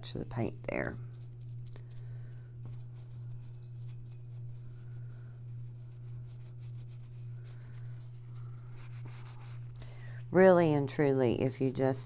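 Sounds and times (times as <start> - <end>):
low hum: 0.0 - 12.0
cloth rubbing painted surface: 1.0 - 12.0.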